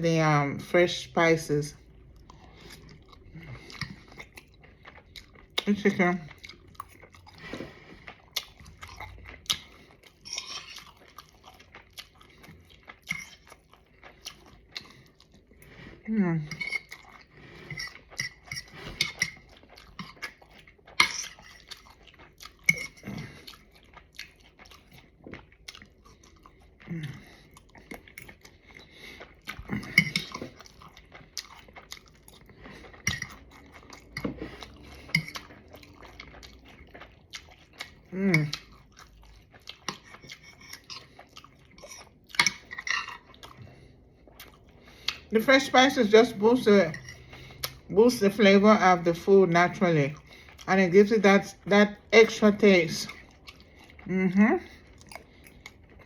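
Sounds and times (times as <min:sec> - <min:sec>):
person chewing food: 0:00.3 - 0:56.0.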